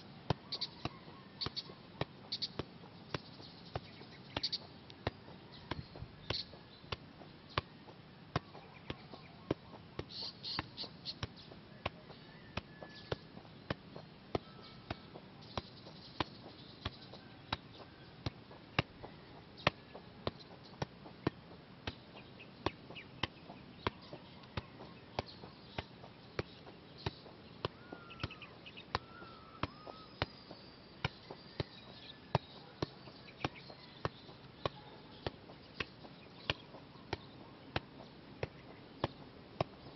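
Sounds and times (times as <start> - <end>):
soccer ball thuds: 0.0 - 39.9.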